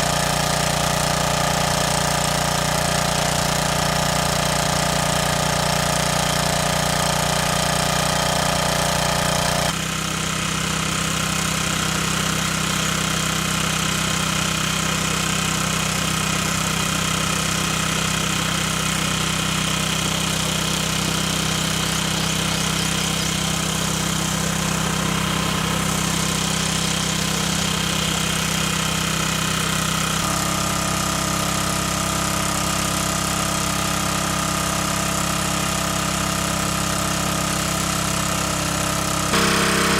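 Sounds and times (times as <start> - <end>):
motor running: 0.0 - 39.9.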